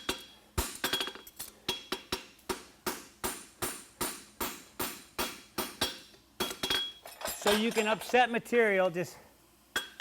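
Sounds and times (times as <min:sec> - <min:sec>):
hammer striking steel on anvil: 0:00.0 - 0:08.2.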